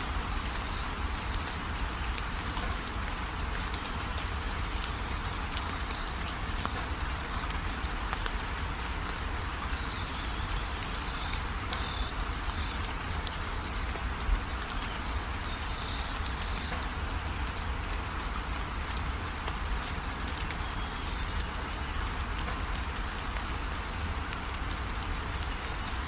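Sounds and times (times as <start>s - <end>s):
raindrops ticking: 0.0s - 26.0s
steady rain falling: 0.0s - 26.0s.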